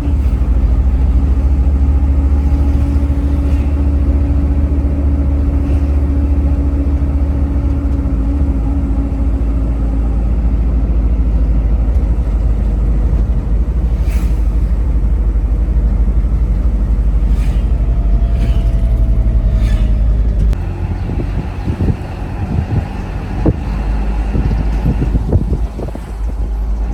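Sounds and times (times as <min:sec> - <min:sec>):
vehicle rumbling on road: 0:00.0 - 0:26.9.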